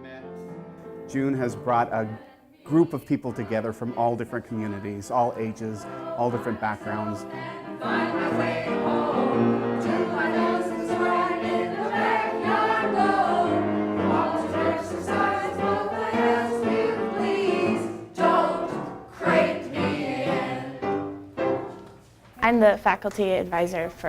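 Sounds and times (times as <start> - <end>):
choir singing: 1.1 - 21.7.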